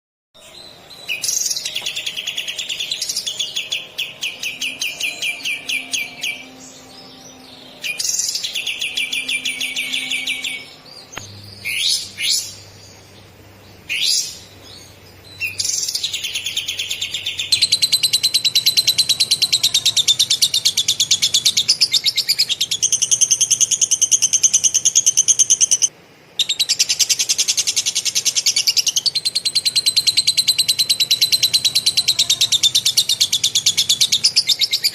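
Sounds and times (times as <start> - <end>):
bird singing buzzy trills: 0.4 - 34.9.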